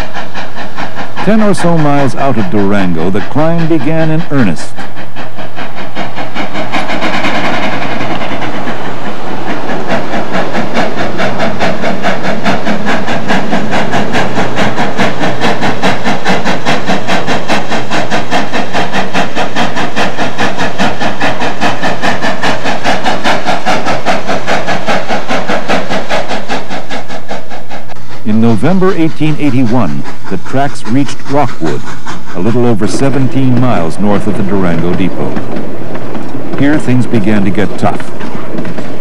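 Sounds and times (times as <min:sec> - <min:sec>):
steam locomotive exhaust chuffing: 0:00.0 - 0:39.0.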